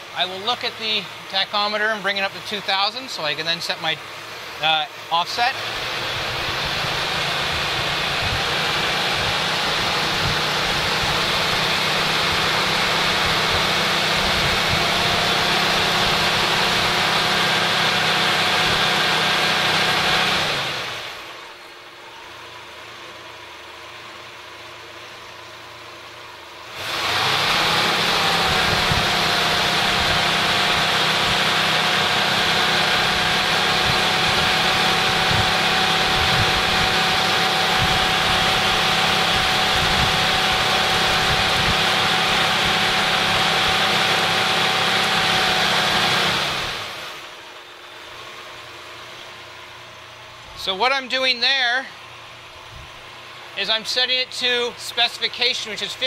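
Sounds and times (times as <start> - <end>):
thin steady whine: 0.0 - 20.1, 20.7 - 56.0
car engine fast idle: 0.0 - 51.0.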